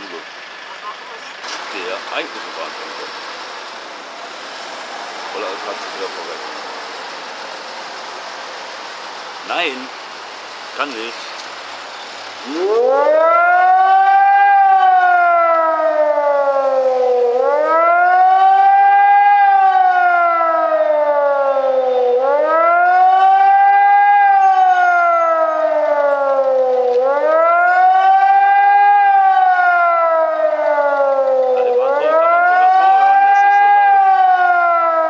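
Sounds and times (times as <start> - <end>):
warning siren wailing: 4.2 - 35.0.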